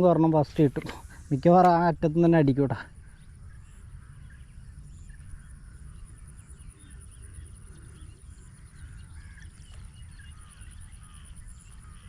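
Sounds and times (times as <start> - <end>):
high-pitched insect whine: 0.0 - 12.0
small birds chirping: 0.0 - 12.0.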